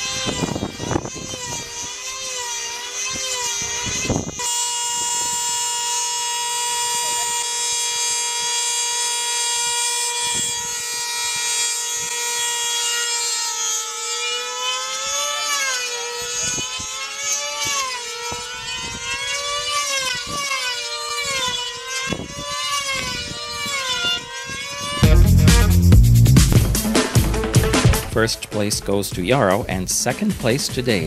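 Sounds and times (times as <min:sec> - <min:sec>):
model engines screaming: 0:00.0 - 0:25.0.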